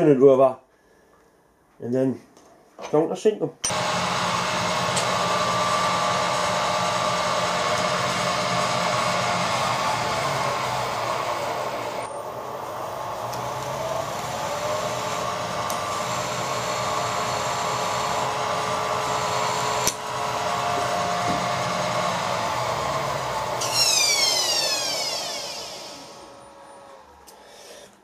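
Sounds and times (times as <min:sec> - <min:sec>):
drill cutting into metal: 0:03.7 - 0:27.4
milling machine spindle whine: 0:03.7 - 0:27.4.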